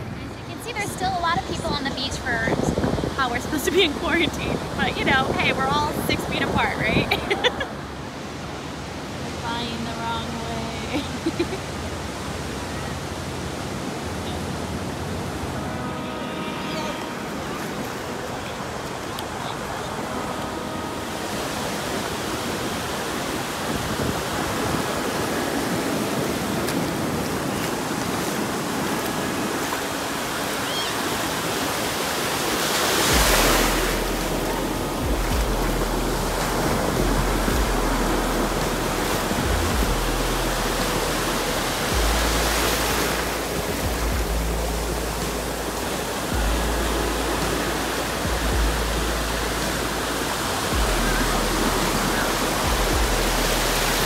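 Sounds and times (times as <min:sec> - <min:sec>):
wind buffeting microphone: 0:00.0 - 0:08.0, 0:16.9 - 0:54.0
ocean surf breaking: 0:00.0 - 0:54.0.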